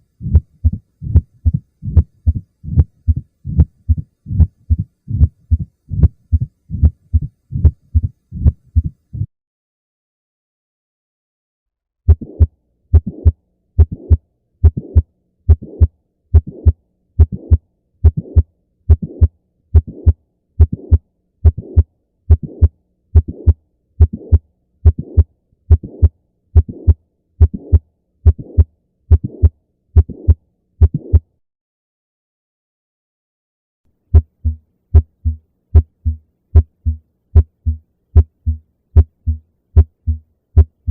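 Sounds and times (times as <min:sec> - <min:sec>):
heartbeat with murmur: 0:00.2 - 0:09.3, 0:12.1 - 0:31.3, 0:34.2 - 0:40.9.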